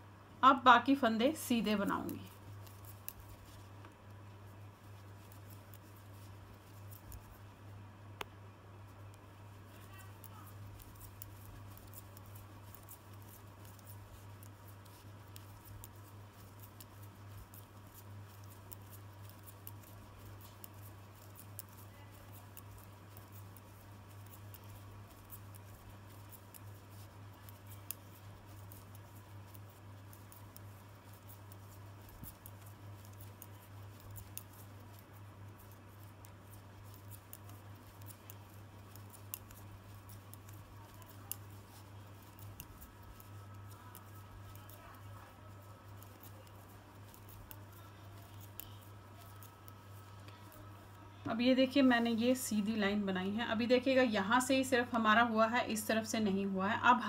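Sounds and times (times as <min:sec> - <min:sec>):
steady low hum: 0:00.0 - 0:57.0
knitting needles clicking: 0:01.5 - 0:04.0, 0:04.9 - 0:07.4, 0:09.1 - 0:50.9.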